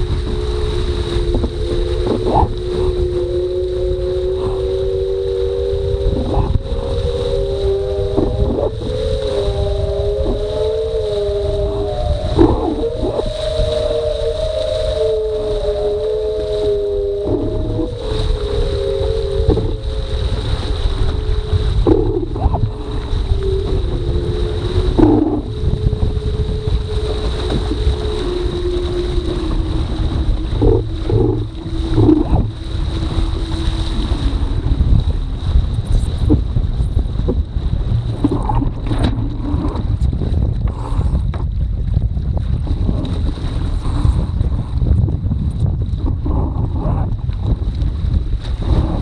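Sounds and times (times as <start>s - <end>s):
thin hum from hydrofoils: 0.0s - 49.0s
water rushing along hull: 0.0s - 49.0s
water splashing against hull: 0.0s - 49.0s
wind buffeting microphone: 0.0s - 49.0s.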